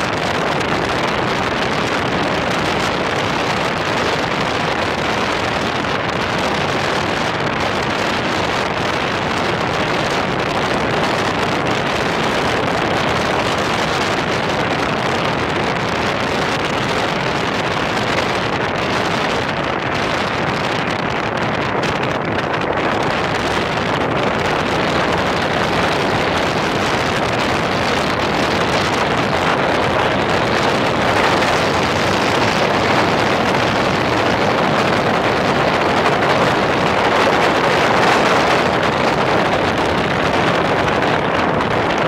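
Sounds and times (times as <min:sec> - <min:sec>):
wind noise on microphone: 0:00.0 - 0:42.0.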